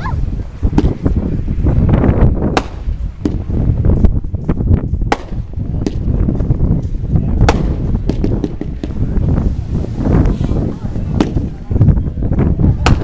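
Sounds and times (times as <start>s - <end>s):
fireworks bangs: 0.0s - 4.0s, 5.0s - 13.0s
low rumble: 0.0s - 13.0s.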